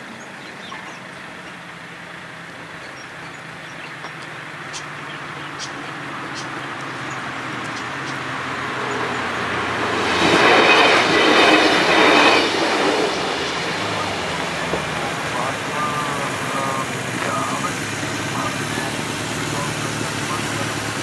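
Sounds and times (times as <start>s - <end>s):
high ringing of wheels on rails: 0.6s - 18.4s
train passing on rails: 0.6s - 21.0s.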